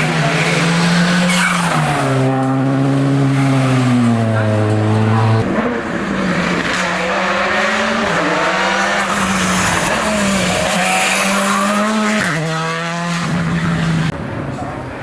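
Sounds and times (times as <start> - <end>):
rally car engine accelerating: 0.0 - 14.7.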